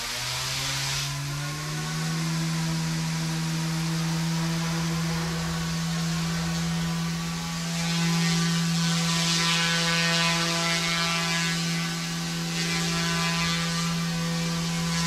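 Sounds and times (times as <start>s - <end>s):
small helicopter hovering: 0.0s - 15.0s.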